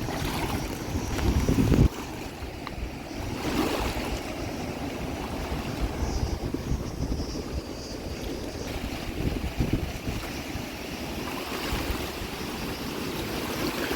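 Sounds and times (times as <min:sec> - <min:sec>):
stream water rushing: 0:00.0 - 0:13.9
wind buffeting microphone: 0:00.0 - 0:13.9.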